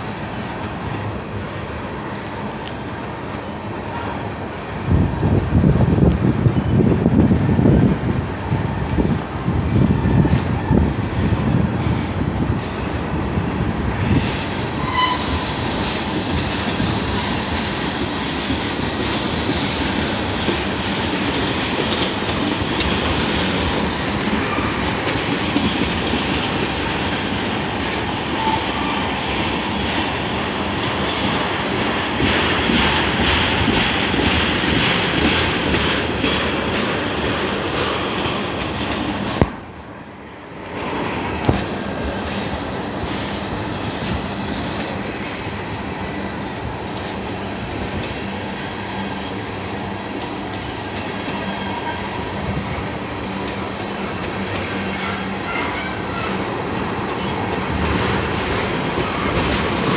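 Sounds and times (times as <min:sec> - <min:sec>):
train wheels rumbling and knocking: 0:00.0 - 0:59.9.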